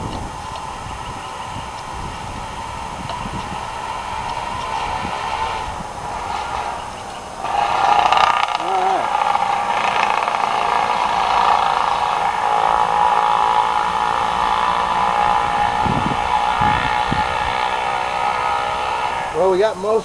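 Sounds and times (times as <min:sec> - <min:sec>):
motorised hand tool stripping bark: 0:00.0 - 0:19.5.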